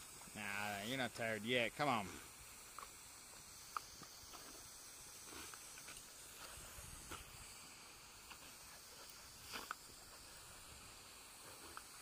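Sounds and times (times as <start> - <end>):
hose water spraying: 0.0 - 12.0.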